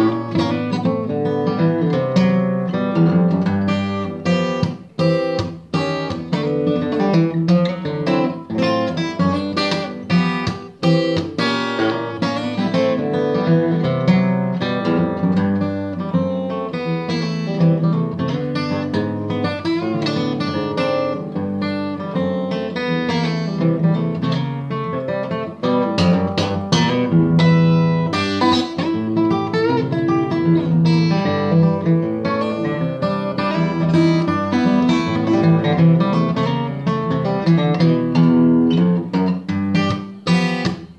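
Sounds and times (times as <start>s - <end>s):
fingerstyle acoustic guitar blues: 0.0s - 40.9s.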